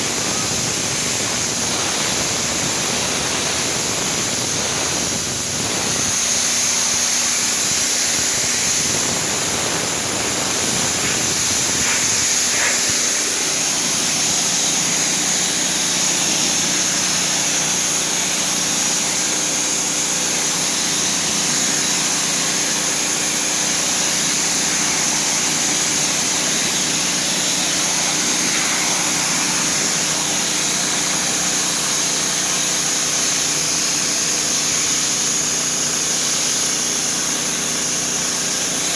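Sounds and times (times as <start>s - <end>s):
small engine droning: 0.0s - 37.8s
high-pressure water jet hissing: 0.0s - 38.9s.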